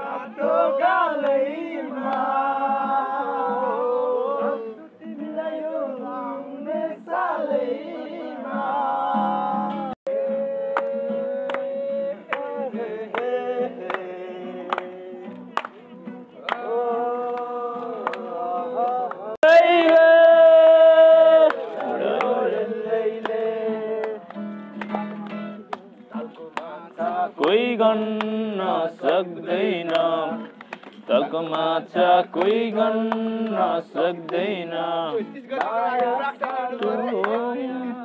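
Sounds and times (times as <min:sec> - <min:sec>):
song with sung vocals: 0:00.0 - 0:38.0.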